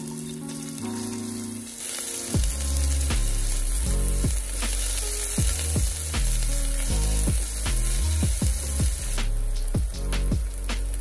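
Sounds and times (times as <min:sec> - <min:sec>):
aromatics sizzling in hot oil: 0:00.0 - 0:11.0
music with heavy bass: 0:00.0 - 0:11.0.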